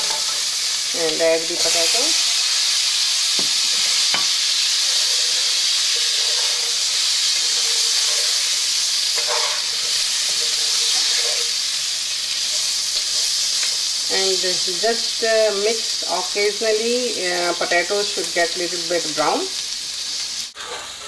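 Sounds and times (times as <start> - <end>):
potatoes sizzling in hot oil: 0.0 - 21.0.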